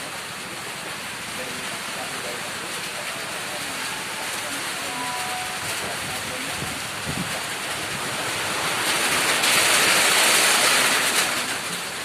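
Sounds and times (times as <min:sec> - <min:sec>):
heavy rain in strong wind: 0:00.0 - 0:12.0.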